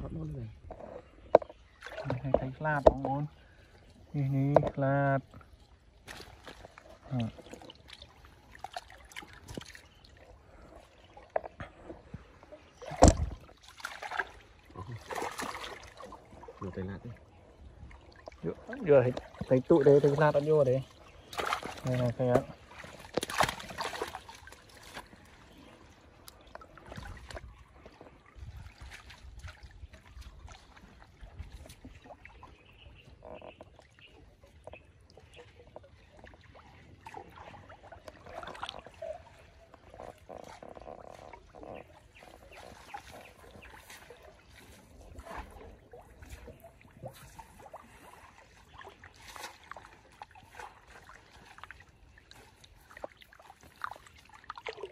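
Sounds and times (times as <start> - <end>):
pond water splashing and trickling: 0.0 - 54.9.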